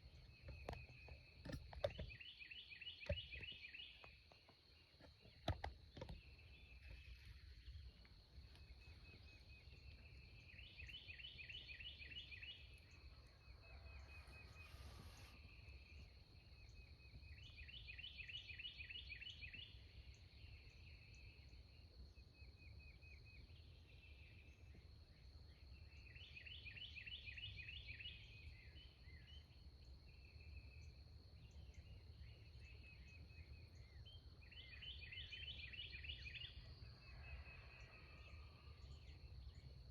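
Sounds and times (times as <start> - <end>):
soft bird chirps: 0.0 - 39.9.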